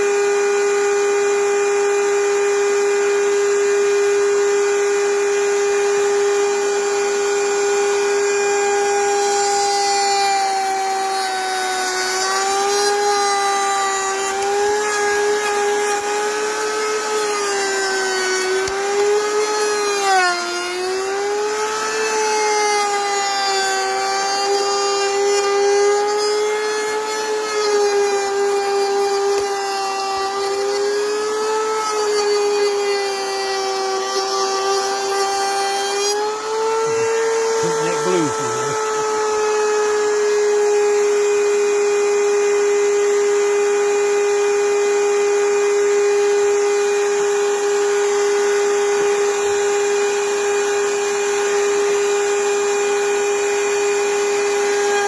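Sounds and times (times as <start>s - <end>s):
power tool motor whining: 0.0s - 55.0s.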